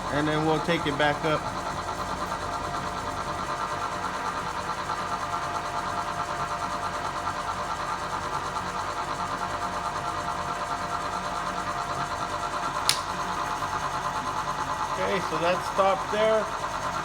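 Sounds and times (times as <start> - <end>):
milling machine running: 0.0 - 17.0.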